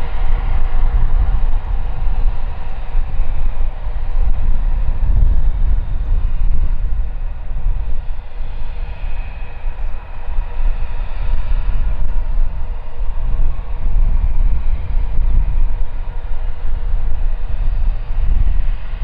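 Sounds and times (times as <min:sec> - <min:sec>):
faint engine whine: 0:00.0 - 0:19.0
jet engines rushing: 0:00.0 - 0:19.0
wind rumble on microphone: 0:00.0 - 0:19.0.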